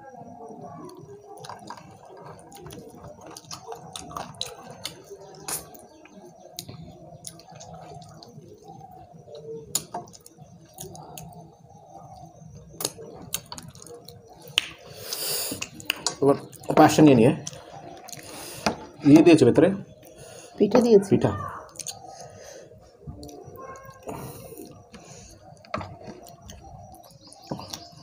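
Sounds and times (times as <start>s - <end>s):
wet chewing: 0.8s - 19.2s, 21.7s - 28.0s.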